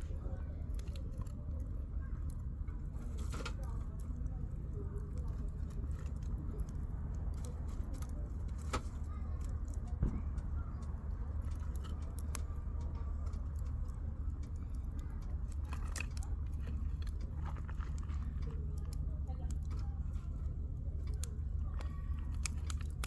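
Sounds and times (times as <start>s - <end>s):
campfire crackling and popping: 0.0s - 23.0s
low steady rumble: 0.0s - 23.0s.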